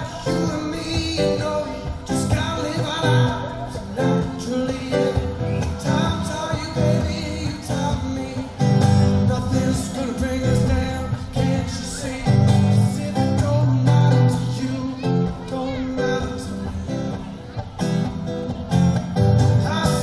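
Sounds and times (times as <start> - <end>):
man singing: 0.0 - 17.6, 19.3 - 20.0
acoustic guitar strumming: 0.0 - 20.0.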